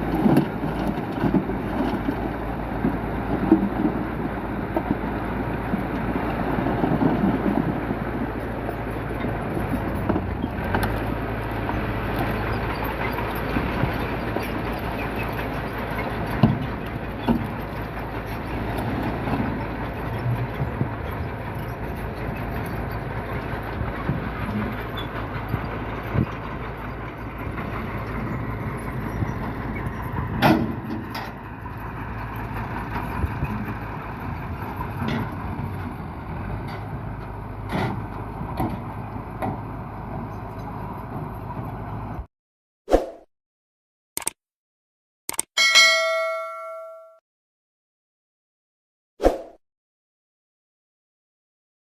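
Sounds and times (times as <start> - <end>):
dump truck engine running: 0.0 - 42.3.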